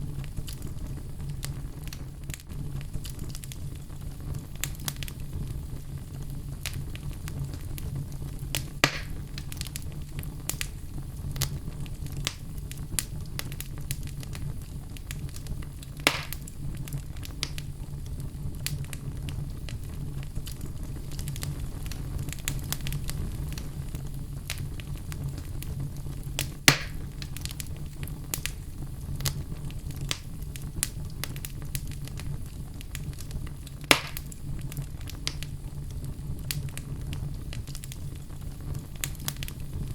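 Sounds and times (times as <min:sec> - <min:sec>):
fire low rumble: 0:00.0 - 0:39.9
loud fire pops: 0:00.0 - 0:39.9
wood fire crackling: 0:00.0 - 0:39.9.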